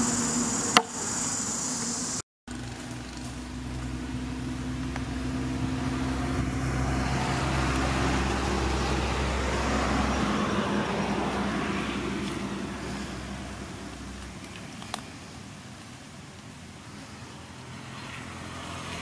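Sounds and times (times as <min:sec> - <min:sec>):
vehicle passing by: 0:00.0 - 0:15.7, 0:16.6 - 0:19.0.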